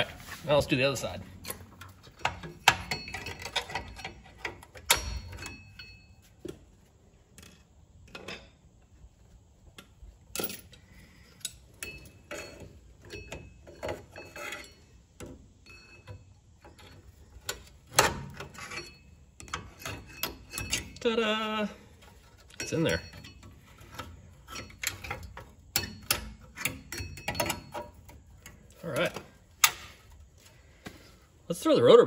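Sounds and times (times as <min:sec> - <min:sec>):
metallic clicks and scrapes: 0:00.0 - 0:06.2, 0:09.7 - 0:21.1, 0:21.8 - 0:30.4.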